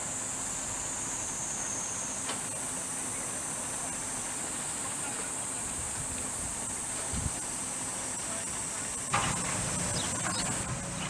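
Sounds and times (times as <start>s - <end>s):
cicadas chorus: 0.0s - 11.0s
distant excavators and truck running: 0.0s - 11.0s.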